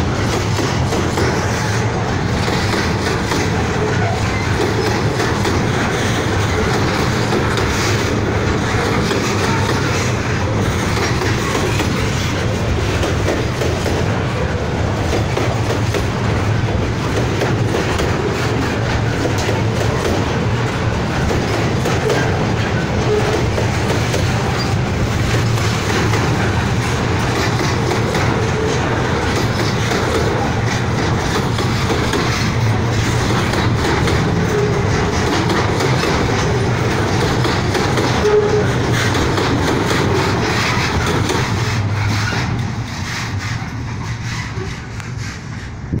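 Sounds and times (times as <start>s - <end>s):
train wheels clattering over joints: 0.0s - 46.0s.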